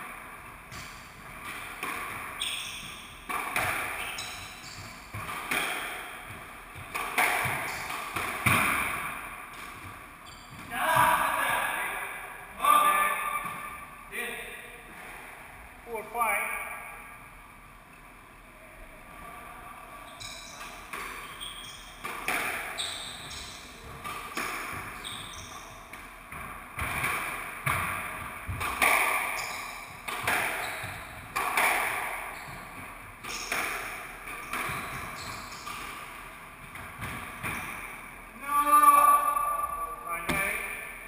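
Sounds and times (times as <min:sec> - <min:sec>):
squash ball hitting rackets and walls: 0:00.0 - 0:15.1, 0:20.2 - 0:41.0.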